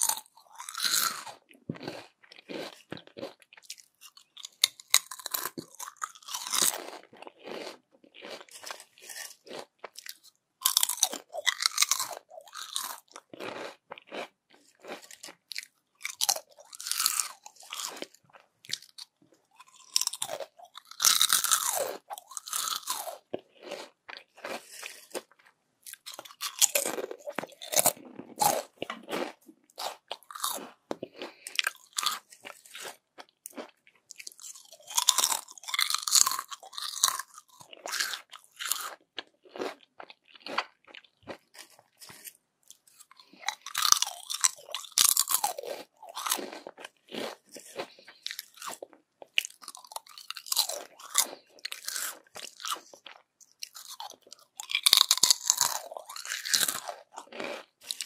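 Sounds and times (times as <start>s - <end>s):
crunchy chips being chewed: 0.0s - 58.0s.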